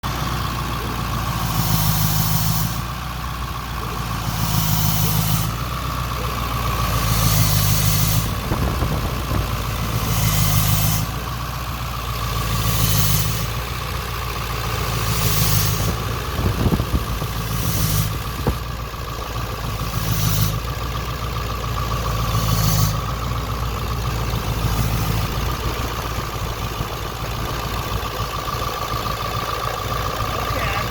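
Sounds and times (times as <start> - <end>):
diesel engine idling: 0.0 - 30.9
odd engine sound: 0.0 - 30.9.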